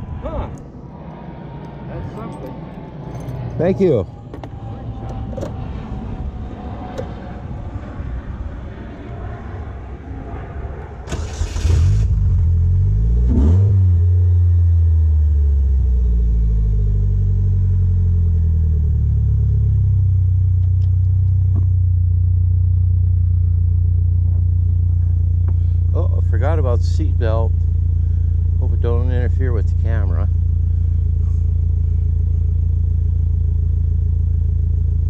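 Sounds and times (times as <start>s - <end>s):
car engine starting and idling: 0.0s - 7.7s, 9.2s - 35.0s.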